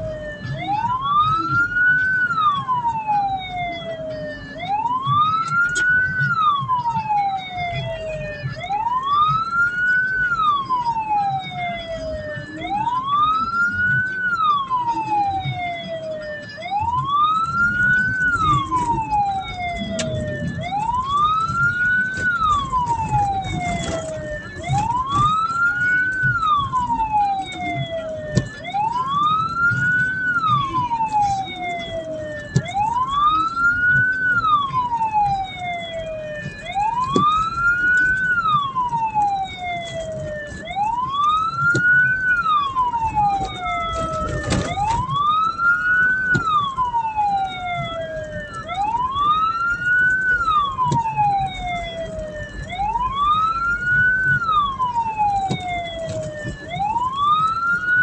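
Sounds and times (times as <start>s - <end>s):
electronic siren wailing: 0.0s - 58.0s
engine and road noise: 0.0s - 58.0s
higher second siren wail: 0.0s - 58.0s.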